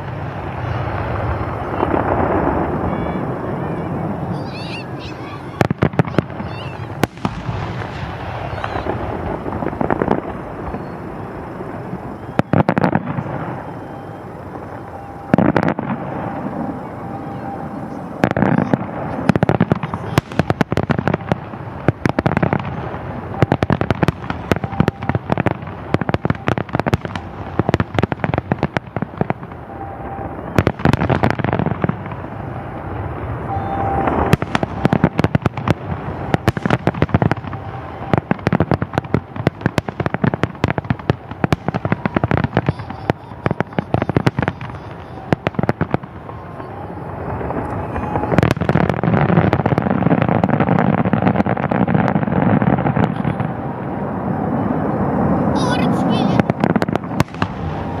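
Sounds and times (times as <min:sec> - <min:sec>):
fireworks booming: 0:00.0 - 0:58.0
fireworks crackling: 0:00.0 - 0:58.0.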